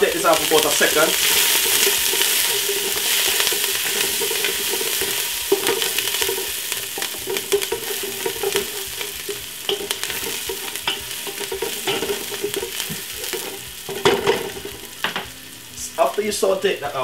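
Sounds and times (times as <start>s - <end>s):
vegetables sizzling in oil: 0.0s - 17.0s
wooden spoon knocking on pot: 0.3s - 15.4s.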